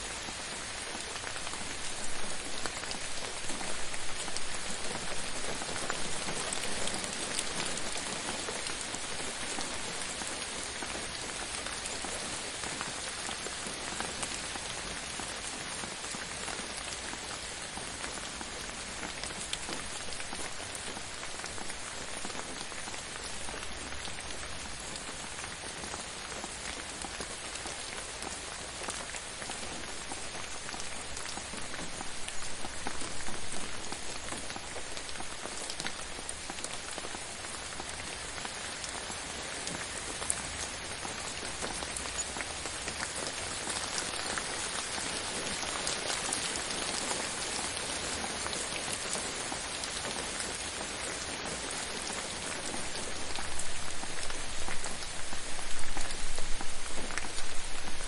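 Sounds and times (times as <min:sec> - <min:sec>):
gentle rain pattering: 0:00.0 - 0:58.0.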